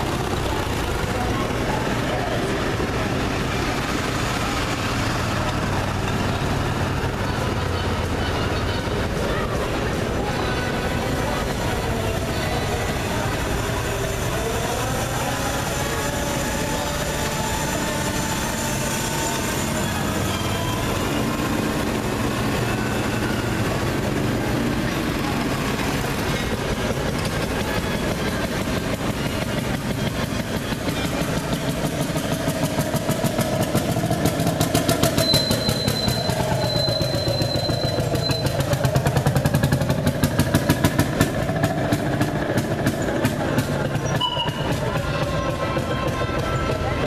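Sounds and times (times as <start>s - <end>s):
small engine humming: 0.0s - 47.0s.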